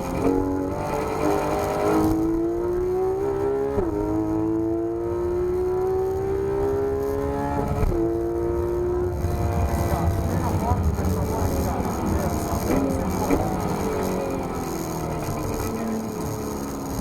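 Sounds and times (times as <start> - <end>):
gear upshift: 0.0 - 4.4, 5.3 - 17.0
car engine accelerating hard: 0.0 - 17.0.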